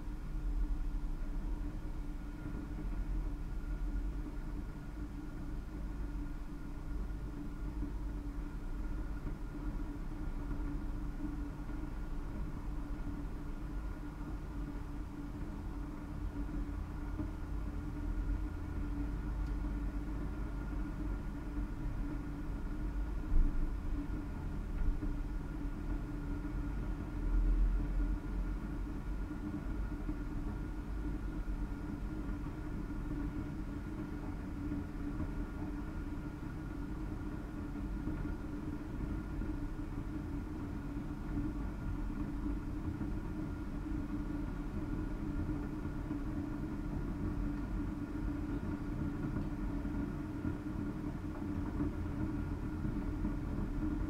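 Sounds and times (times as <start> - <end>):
coffee machine heating water: 0.0 - 54.0.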